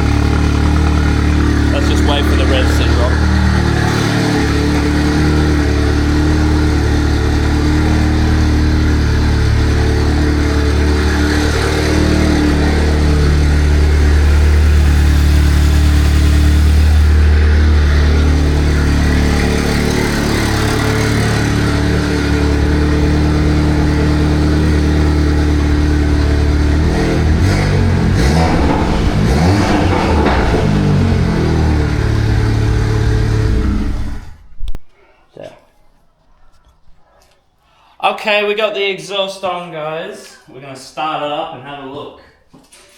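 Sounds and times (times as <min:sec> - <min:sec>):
car engine idling loudly: 0:00.0 - 0:34.4.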